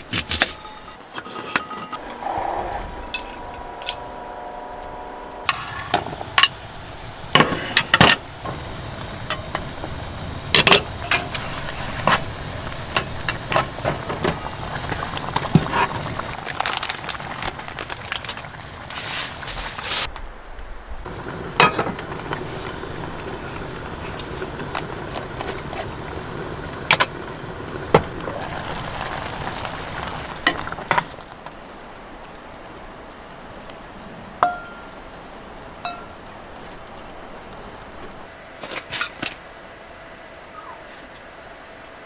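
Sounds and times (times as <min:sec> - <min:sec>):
steady sizzling hiss: 0:03.5 - 0:42.0.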